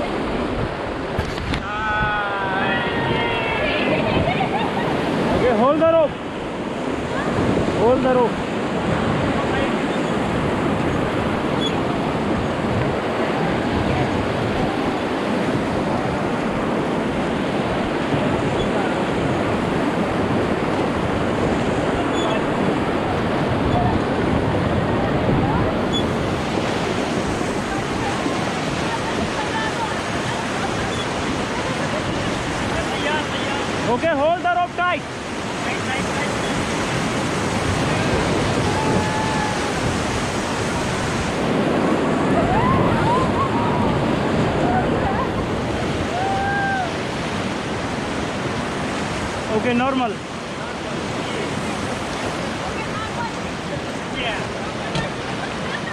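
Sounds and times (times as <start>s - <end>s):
wind noise on microphone: 0.0s - 34.0s, 35.1s - 55.9s
whitewater rushing: 0.0s - 55.9s.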